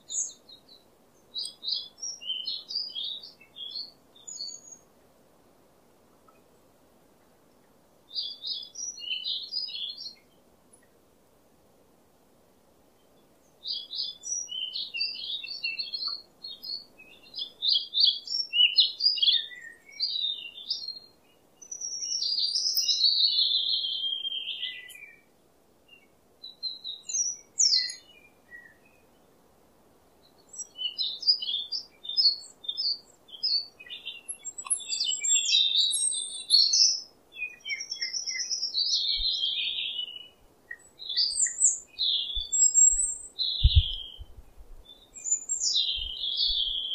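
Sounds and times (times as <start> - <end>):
small birds chirping: 0.0 - 5.0, 6.2 - 11.0, 12.9 - 46.9.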